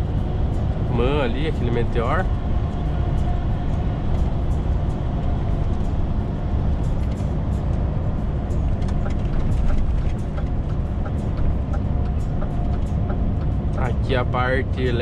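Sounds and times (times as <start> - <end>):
diesel truck engine and road noise: 0.0 - 15.0.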